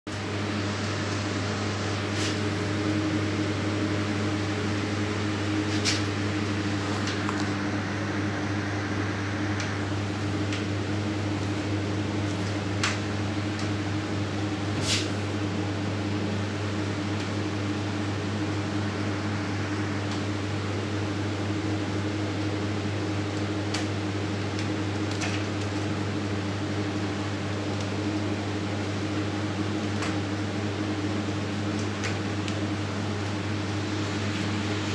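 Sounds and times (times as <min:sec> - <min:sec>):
chiller cooling unit humming: 0:00.1 - 0:34.9.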